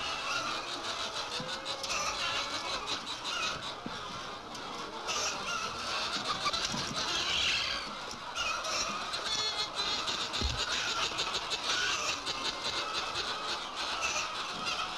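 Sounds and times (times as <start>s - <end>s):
chickens squawking and clucking: 0.0s - 14.9s.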